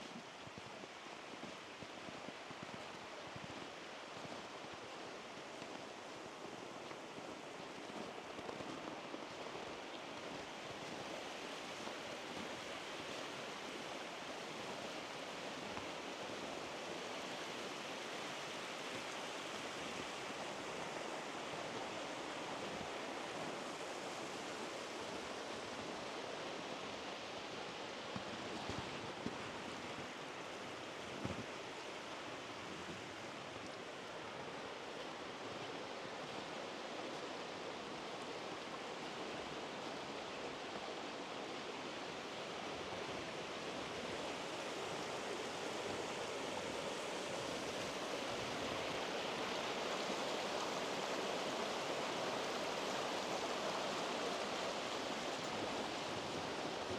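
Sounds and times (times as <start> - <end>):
mountain stream rushing: 0.0 - 56.9.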